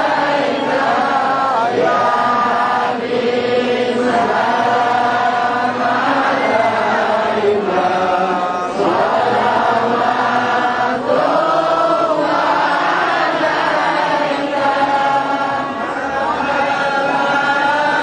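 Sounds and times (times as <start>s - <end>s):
many voices chanting: 0.0s - 18.0s.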